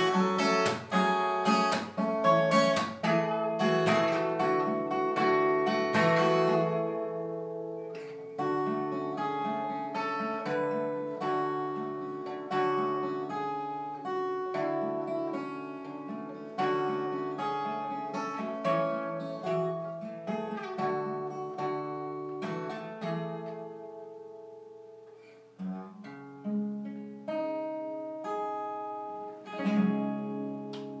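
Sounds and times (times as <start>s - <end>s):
acoustic guitar picked chords: 0.0s - 31.0s.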